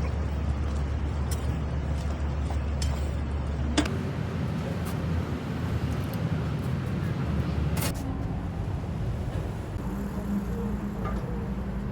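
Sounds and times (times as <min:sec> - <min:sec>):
road traffic rumble: 0:00.0 - 0:11.9.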